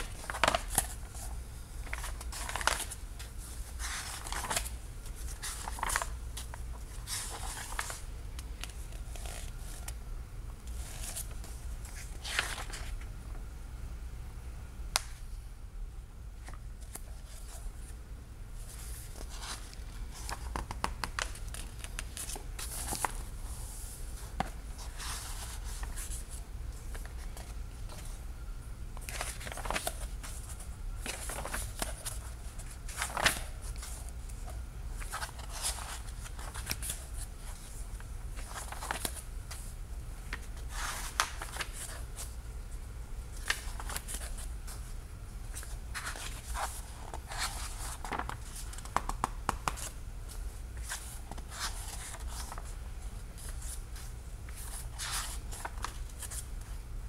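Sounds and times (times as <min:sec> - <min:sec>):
book pages rustling: 0:00.0 - 0:10.0, 0:10.6 - 0:13.1, 0:18.6 - 0:28.2, 0:29.0 - 0:39.7, 0:40.3 - 0:42.4, 0:43.3 - 0:56.8
steady low hum: 0:00.0 - 0:57.0.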